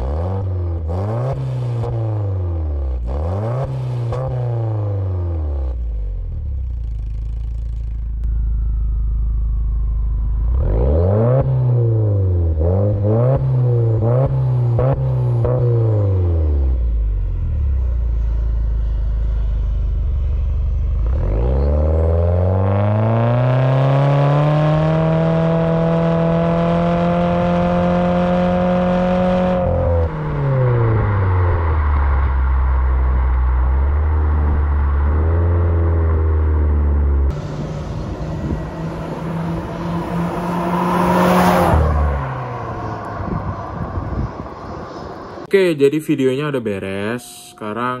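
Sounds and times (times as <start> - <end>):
car engine revving: 0.0 - 45.5.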